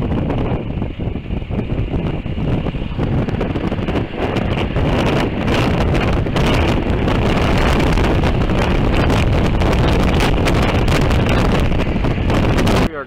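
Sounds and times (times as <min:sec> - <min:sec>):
motorcycle engine: 0:00.0 - 0:12.8
road noise: 0:00.0 - 0:13.0
wind buffeting microphone: 0:00.0 - 0:13.0.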